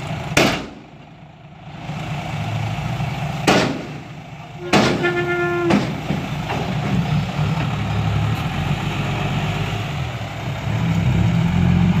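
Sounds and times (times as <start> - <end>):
diesel truck engine: 0.0 - 12.0.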